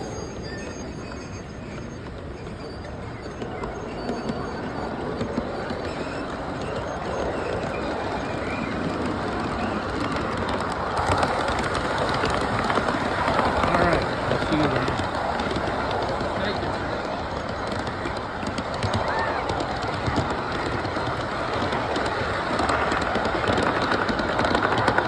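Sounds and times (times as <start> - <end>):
model train wheels clattering: 0.0 - 25.0.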